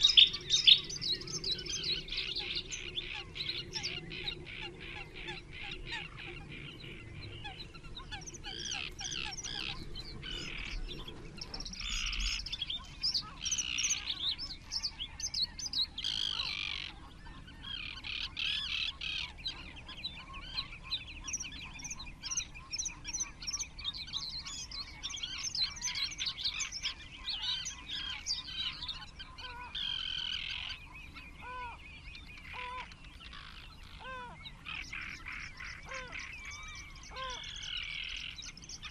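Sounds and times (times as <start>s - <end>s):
low bird calls: 0.0s - 38.9s
songbirds singing and trilling: 0.0s - 38.9s.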